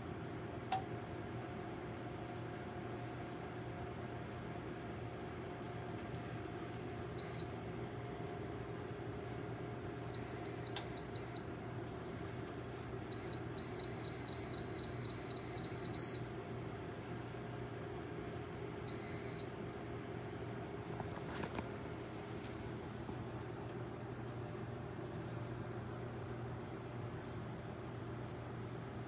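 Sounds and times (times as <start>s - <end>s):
heater fan hum: 0.0s - 29.0s.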